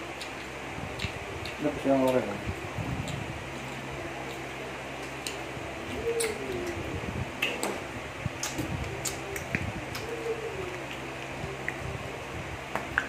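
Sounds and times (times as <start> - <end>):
people chewing and lip smacking: 0.0 - 13.0.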